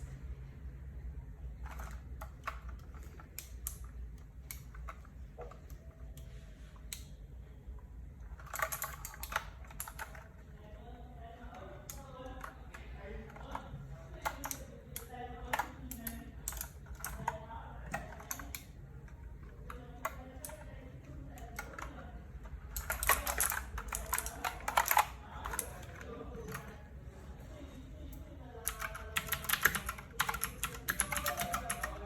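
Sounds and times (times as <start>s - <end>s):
clicky mechanical keyboard typing: 1.6s - 7.2s, 8.2s - 10.6s, 11.5s - 26.9s, 28.6s - 32.0s.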